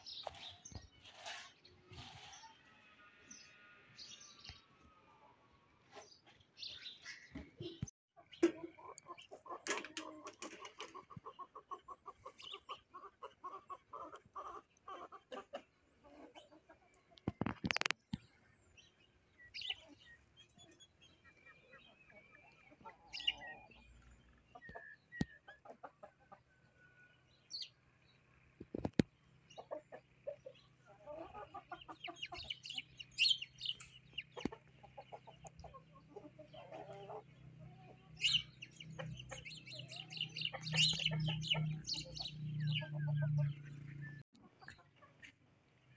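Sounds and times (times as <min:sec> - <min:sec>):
hens clucking: 0:05.8 - 0:17.9, 0:19.6 - 0:45.8.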